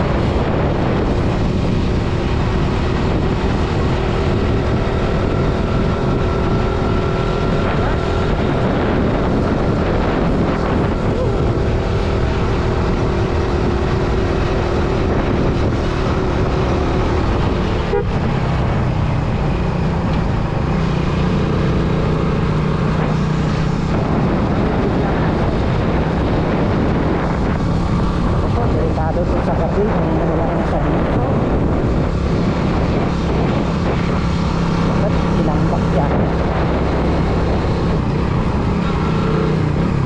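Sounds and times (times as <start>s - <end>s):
motorcycle engine running: 0.0s - 40.0s
road and wind noise: 0.0s - 40.0s.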